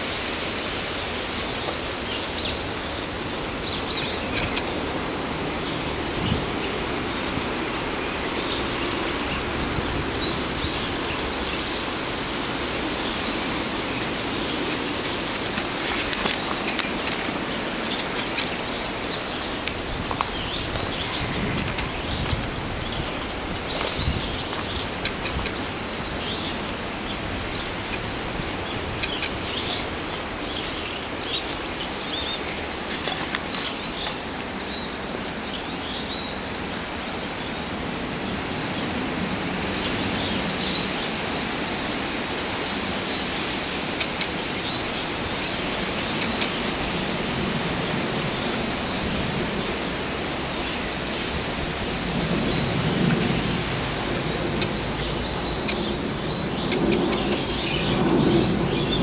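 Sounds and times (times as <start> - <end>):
birds chirping: 0.0 - 59.0
steady rushing noise: 0.0 - 59.0.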